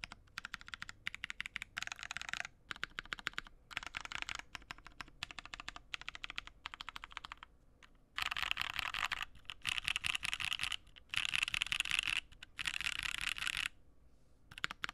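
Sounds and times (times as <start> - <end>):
mechanical keyboard typing: 0.0 - 7.5, 8.2 - 13.7, 14.5 - 14.9.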